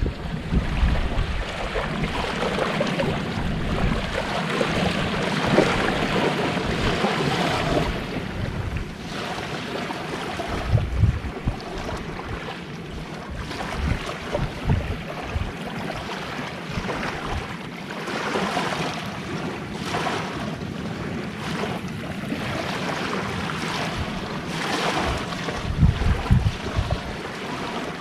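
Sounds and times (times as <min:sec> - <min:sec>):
sea waves washing onto shore: 0:00.0 - 0:28.0
wind rumbling on microphone: 0:00.0 - 0:28.0.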